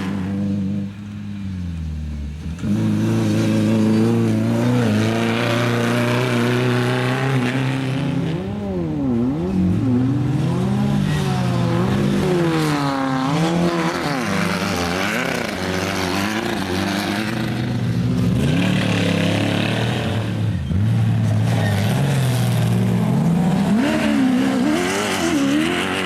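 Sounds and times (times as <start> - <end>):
engine revving at high revs: 2.6 - 26.0.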